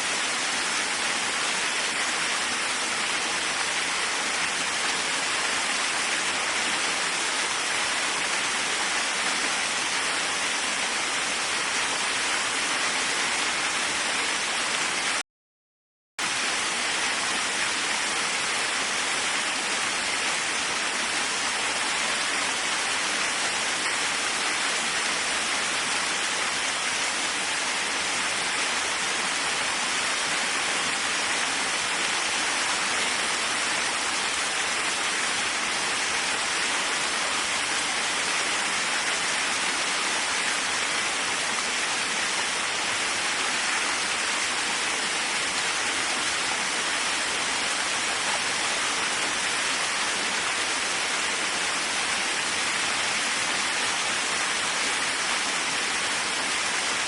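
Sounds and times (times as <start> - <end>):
waterfall rushing: 0.0 - 15.2, 16.2 - 57.0.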